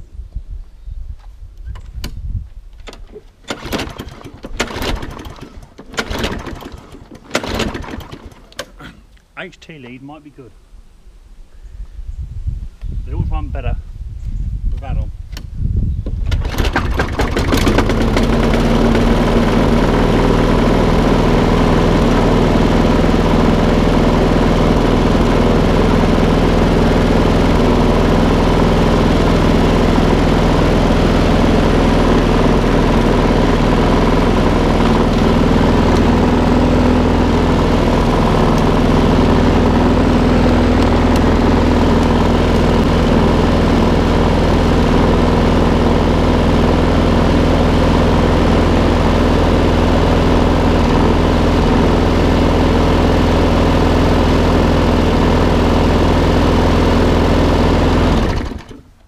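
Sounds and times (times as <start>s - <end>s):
lawnmower engine pull-start: 2.7s - 8.9s, 16.2s - 59.0s
lawnmower engine running: 2.8s - 8.8s, 16.2s - 59.0s.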